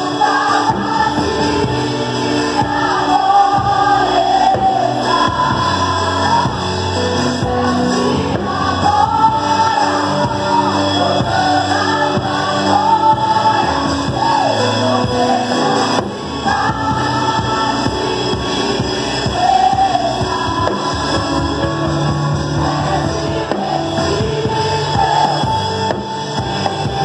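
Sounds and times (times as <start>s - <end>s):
electronic keyboard chords: 0.0s - 27.0s
people singing: 0.0s - 27.0s.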